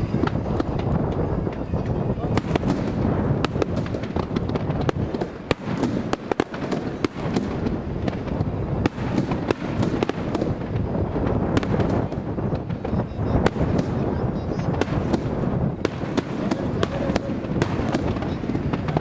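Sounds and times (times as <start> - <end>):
fireworks bangs and crackles: 0.0 - 19.0
wind buffeting microphone: 0.0 - 19.0.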